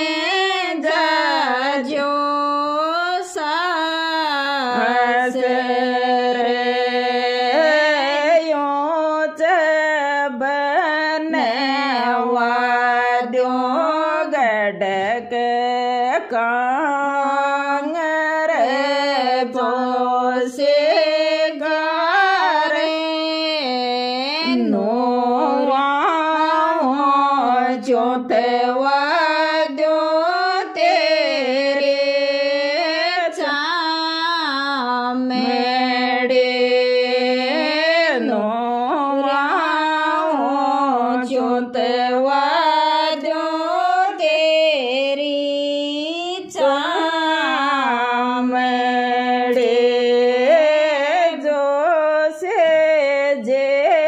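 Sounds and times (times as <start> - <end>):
woman singing folk song: 0.0 - 54.0.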